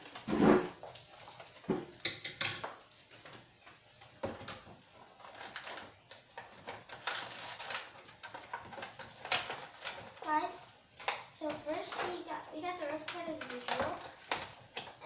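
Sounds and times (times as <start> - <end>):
packaging clicks and rustles: 0.1 - 15.0.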